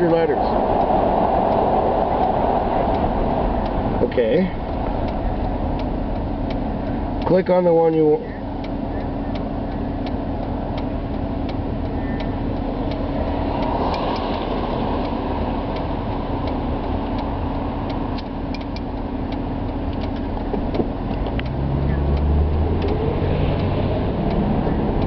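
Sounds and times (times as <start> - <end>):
car engine and road noise: 0.0 - 25.0
light ticks: 0.8 - 25.0.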